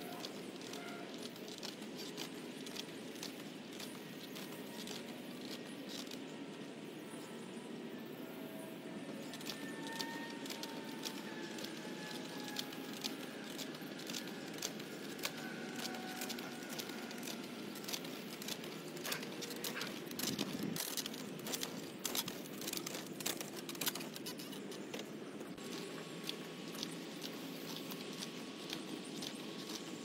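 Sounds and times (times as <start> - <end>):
wheel hoe scraping through soil: 0.0 - 6.4, 8.5 - 30.0.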